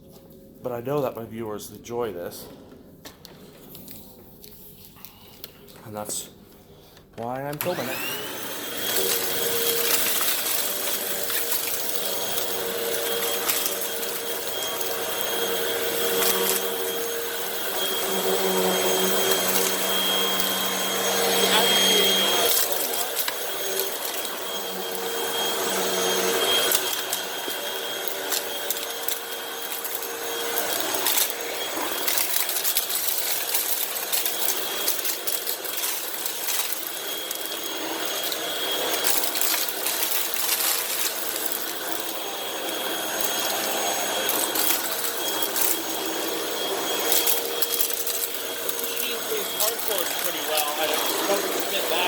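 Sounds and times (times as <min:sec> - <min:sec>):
upright vacuum running: 0:07.5 - 0:52.0
debris rattling through vacuum: 0:07.6 - 0:52.0.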